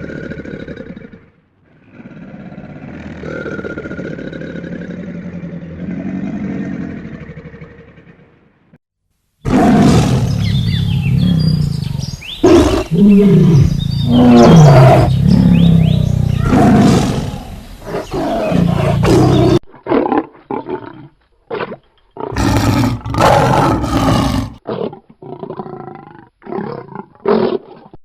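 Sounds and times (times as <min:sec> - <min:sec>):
big cat roaring: 0:00.0 - 0:08.4, 0:09.5 - 0:21.1, 0:22.2 - 0:27.8.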